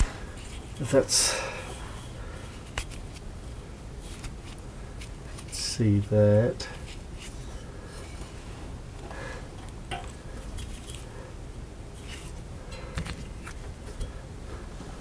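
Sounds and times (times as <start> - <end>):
rustling of wiring: 0.0 - 11.2, 11.9 - 15.0
steady background noise: 0.0 - 15.0.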